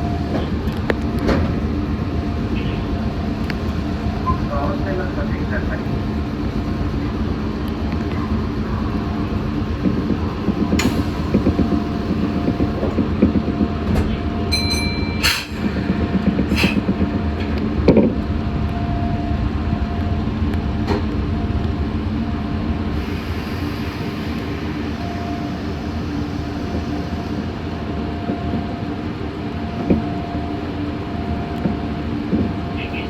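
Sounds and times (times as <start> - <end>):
electric train hum: 0.0 - 33.0
train wheels rumbling on rail: 0.0 - 33.0.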